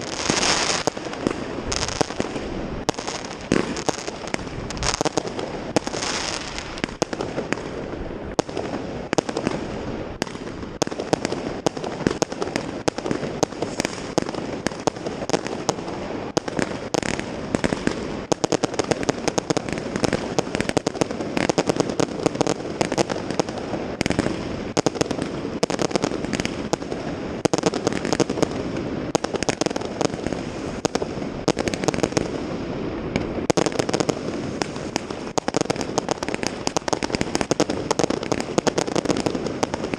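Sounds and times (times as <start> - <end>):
firecrackers crackling: 0.0 - 39.9
firework bangs: 0.0 - 39.9.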